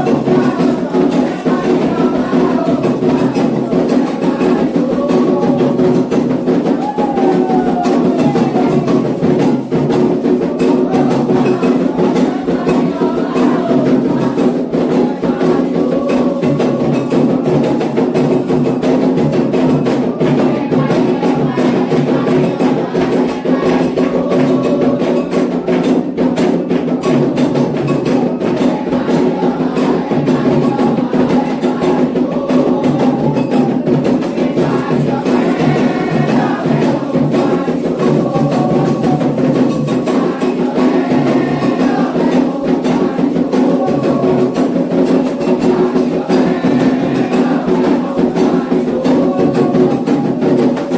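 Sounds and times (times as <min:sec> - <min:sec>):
hand drums playing fast rhythm: 0:00.0 - 0:50.9.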